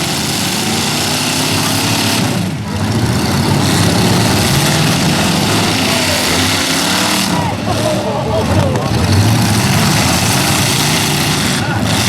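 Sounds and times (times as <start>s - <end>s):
truck engines running loudly: 0.0s - 12.0s.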